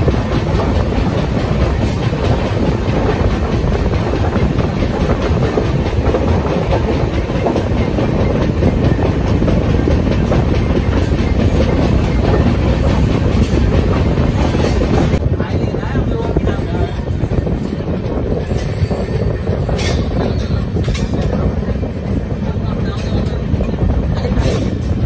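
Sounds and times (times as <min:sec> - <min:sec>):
wheels clacking over rails: 0:00.0 - 0:15.2, 0:16.3 - 0:25.0
train rumble from on board: 0:00.0 - 0:25.0.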